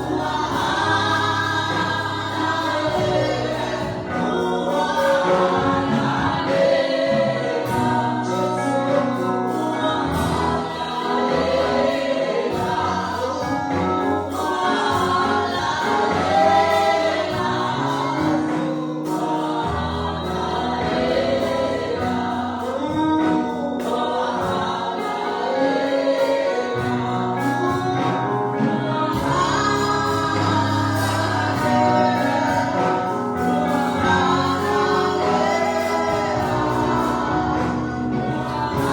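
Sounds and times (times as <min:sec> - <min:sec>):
choir and congregation singing: 0:00.0 - 0:38.9
instrumental accompaniment low notes: 0:00.0 - 0:38.9.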